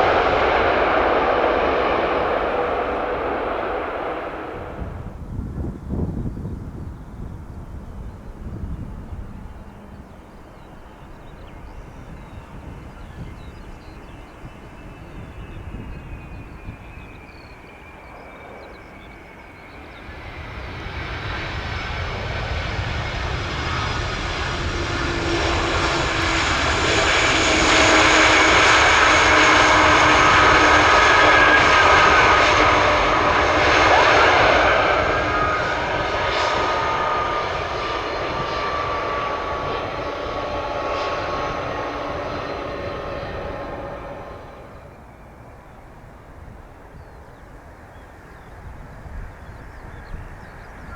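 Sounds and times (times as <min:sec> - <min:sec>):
jet passing on landing approach: 0:00.0 - 0:50.9.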